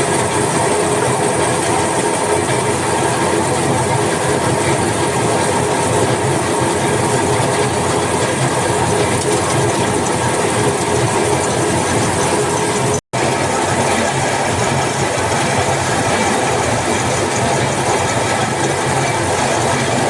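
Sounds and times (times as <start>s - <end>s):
constant mechanical hum: 0.0s - 20.0s
workshop machinery rattling: 0.0s - 20.0s.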